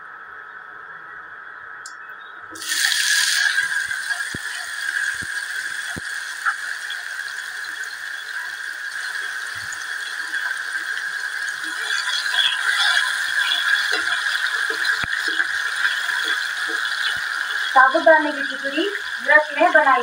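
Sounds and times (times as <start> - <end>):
food sizzling in hot oil: 2.6 - 20.0.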